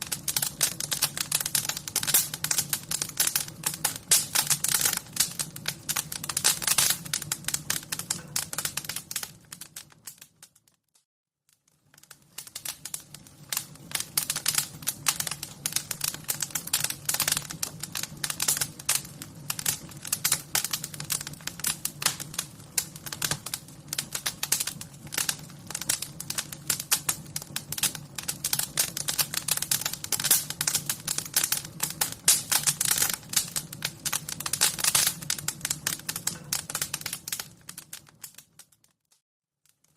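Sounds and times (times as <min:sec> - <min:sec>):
fire crackling and popping: 0:00.0 - 0:10.8, 0:11.5 - 0:39.9.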